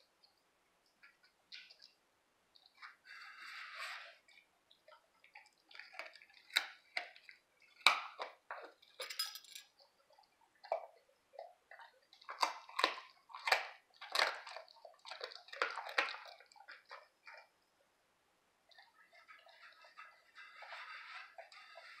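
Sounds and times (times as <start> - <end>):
dog chewing bones: 2.6 - 9.0, 9.6 - 17.6, 18.7 - 22.0.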